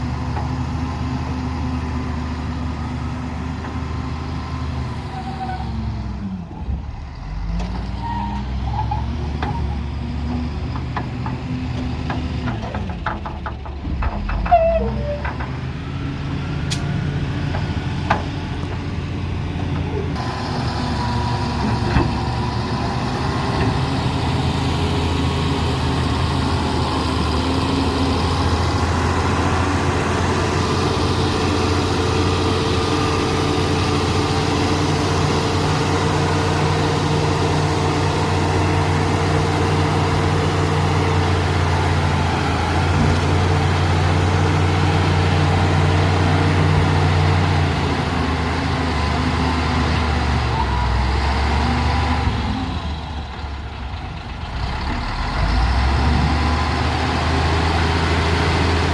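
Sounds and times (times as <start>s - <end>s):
heavy diesel engine running: 0.0s - 58.9s.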